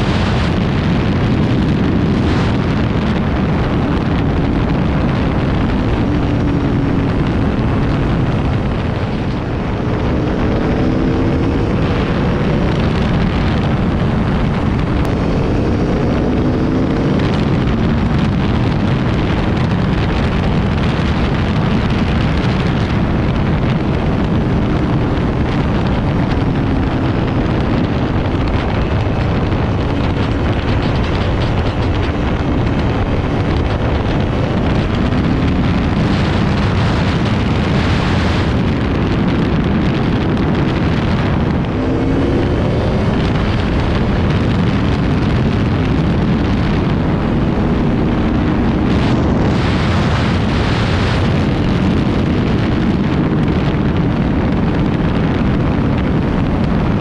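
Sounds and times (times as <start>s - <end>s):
motorcycle engine: 0.0s - 57.0s
wind noise on microphone: 0.0s - 57.0s.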